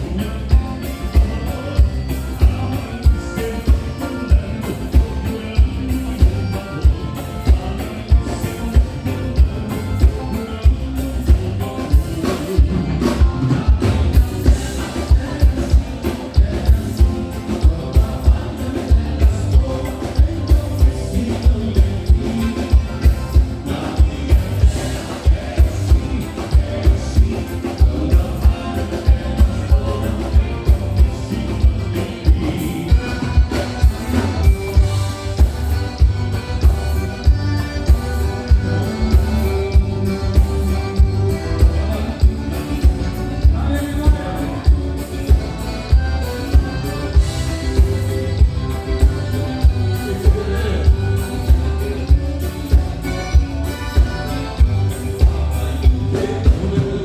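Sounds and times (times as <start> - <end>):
live band playing dance music: 0.0 - 57.0.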